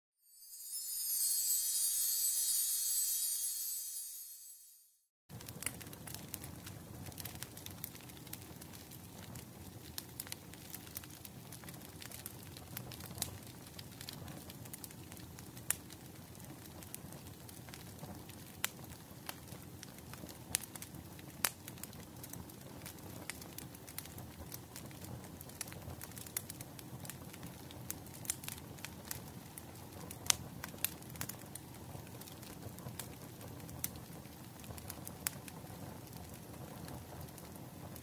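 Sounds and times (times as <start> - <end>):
fire pops and snaps: 5.3 - 38.0
fire rumbling: 5.3 - 38.0.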